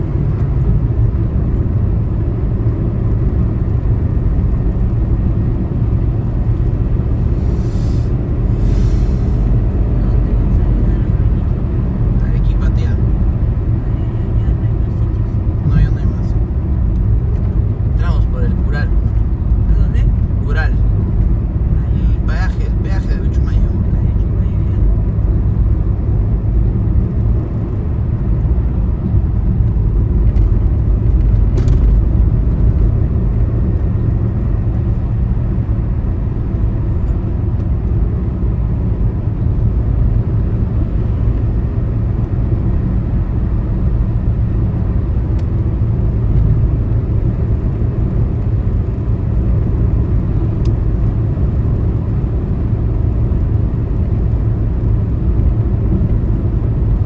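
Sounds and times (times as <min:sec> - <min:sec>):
engine and tyre rumble: 0:00.0 - 0:57.0.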